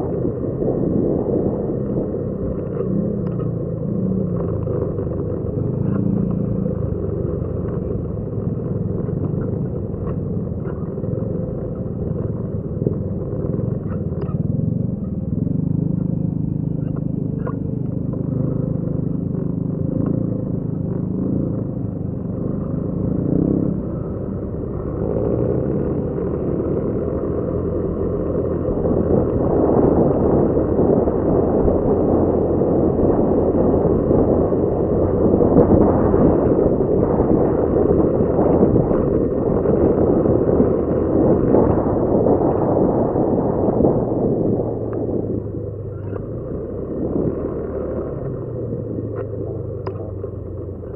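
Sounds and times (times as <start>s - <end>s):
loud rushing wind noise: 0.0s - 50.9s
motorcycle engine running: 0.0s - 50.9s.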